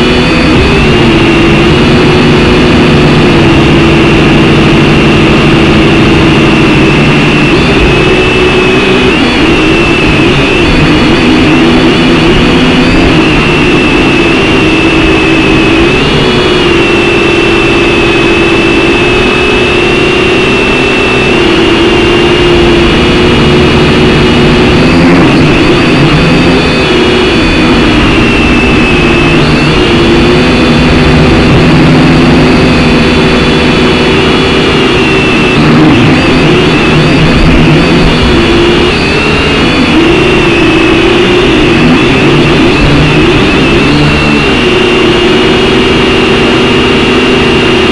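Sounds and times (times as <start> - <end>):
quadcopter motors whining: 0.0 - 47.9.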